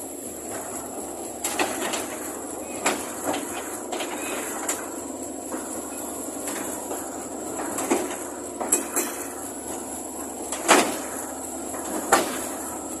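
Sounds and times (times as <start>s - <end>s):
excavator engine and hydraulic whine: 0.0s - 13.0s
steel tracks clanking: 0.0s - 13.0s.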